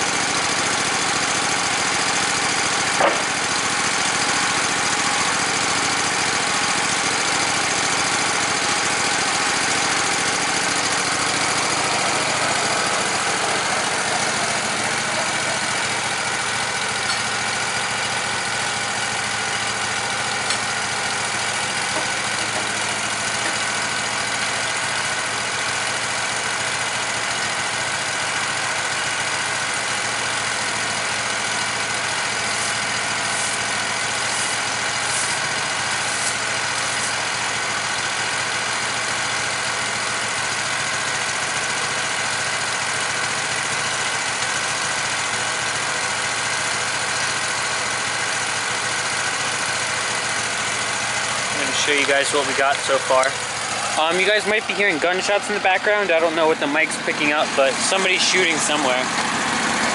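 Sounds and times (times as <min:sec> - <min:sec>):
band sawmill cutting log: 0:00.0 - 0:59.9.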